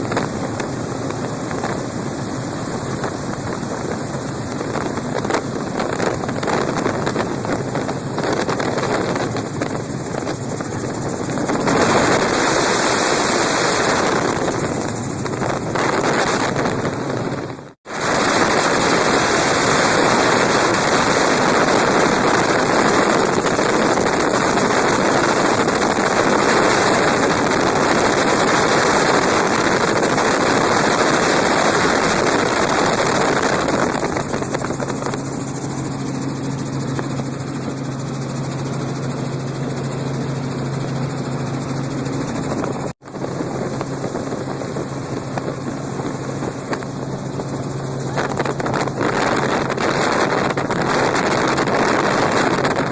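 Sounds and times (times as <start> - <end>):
helicopter rotor noise: 0.0 - 52.9.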